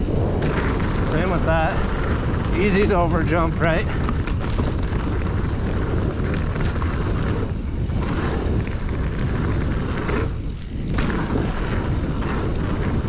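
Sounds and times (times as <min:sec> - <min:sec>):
bike tyres rolling on dirt: 0:00.0 - 0:13.0
wind over microphone: 0:00.0 - 0:13.0.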